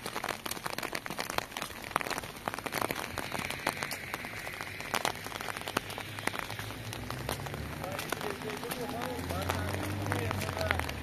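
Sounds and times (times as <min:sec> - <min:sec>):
raindrops ticking close by: 0:00.0 - 0:11.0
steady rain falling: 0:00.0 - 0:11.0.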